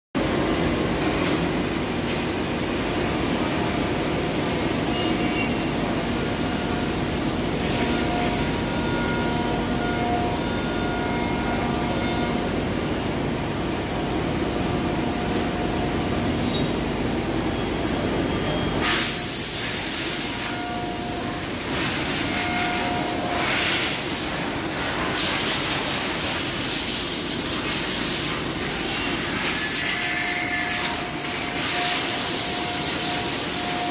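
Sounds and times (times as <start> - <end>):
machining centre running: 0.2 - 26.7, 27.7 - 33.9.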